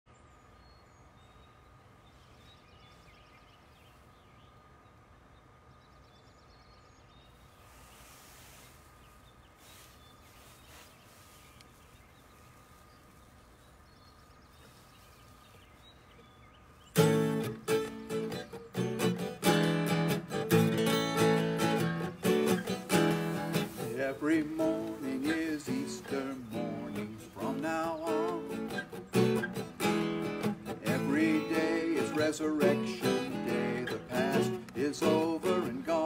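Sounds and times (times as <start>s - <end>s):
faint birdsong chirps: 0.1s - 36.0s
quiet outdoor background noise: 0.1s - 36.0s.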